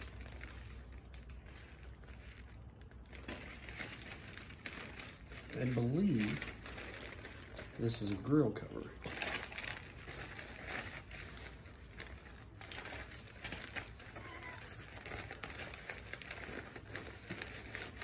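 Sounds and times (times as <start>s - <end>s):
fabric cover rustling: 0.0s - 18.0s
plastic bag crinkling: 0.0s - 18.0s.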